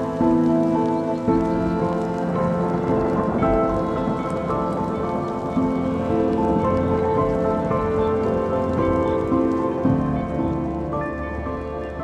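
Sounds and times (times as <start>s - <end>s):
low haze noise: 0.0s - 12.0s
slow instrumental music: 0.0s - 12.0s.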